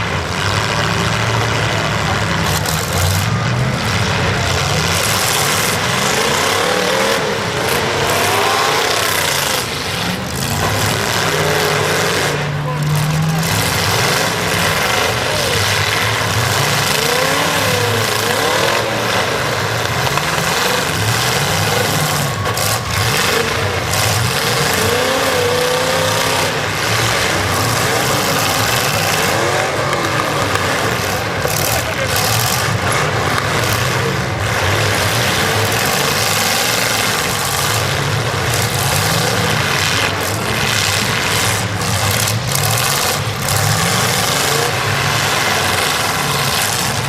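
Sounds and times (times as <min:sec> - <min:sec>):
car engines revving hard: 0:00.0 - 0:47.0.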